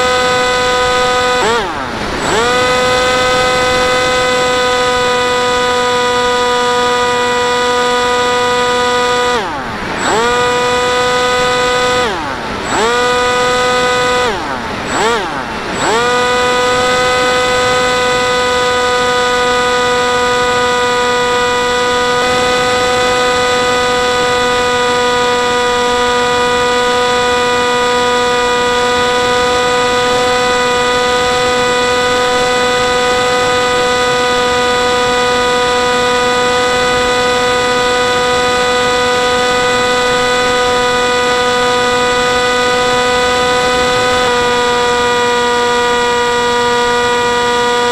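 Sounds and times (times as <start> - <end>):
model plane motor and propeller: 0.0 - 47.9.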